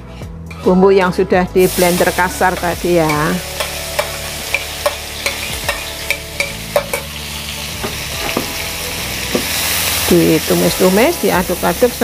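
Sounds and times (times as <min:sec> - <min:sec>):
food sizzling in hot oil: 0:01.6 - 0:12.0.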